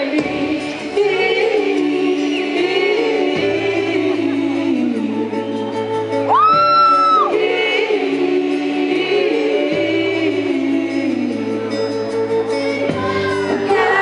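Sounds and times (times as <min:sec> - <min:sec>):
live pop band: 0:00.0 - 0:14.0
wordless sung vocals: 0:00.0 - 0:14.0.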